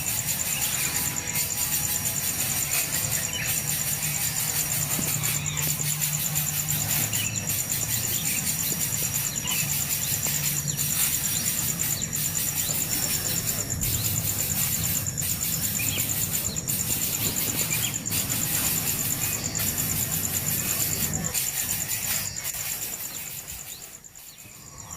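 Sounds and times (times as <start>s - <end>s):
high-pitched insect chorus: 0.0s - 24.9s.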